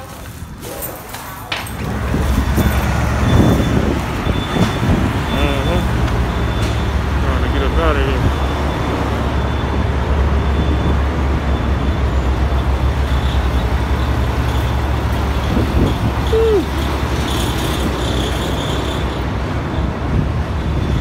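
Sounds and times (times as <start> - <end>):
truck diesel engine drone: 0.0 - 21.0.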